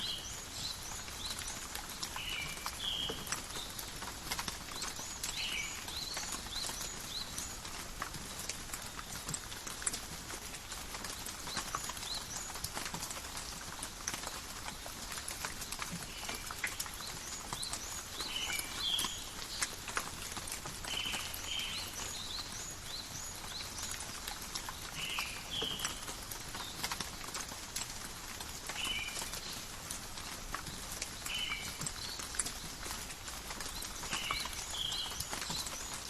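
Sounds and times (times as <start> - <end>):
drips ticking on leaves: 0.0 - 36.0
light rain in a forest: 0.0 - 36.0.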